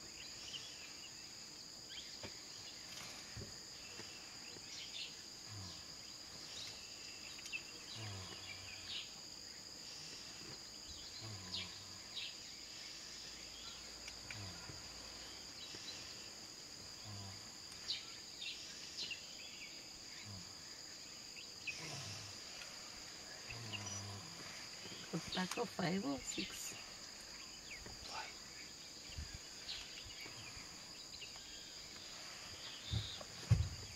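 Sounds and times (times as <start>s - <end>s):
insects droning: 0.0s - 33.9s.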